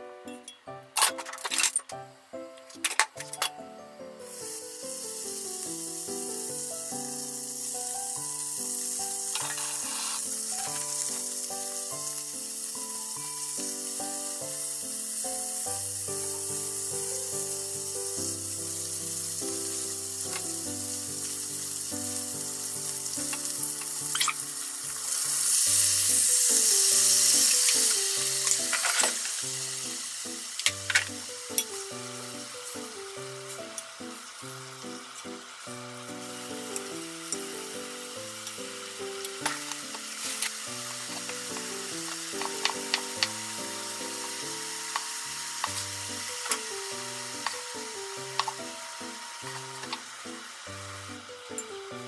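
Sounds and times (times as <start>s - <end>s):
background music: 0.0s - 52.0s
meat sizzling in hot oil: 4.2s - 52.0s.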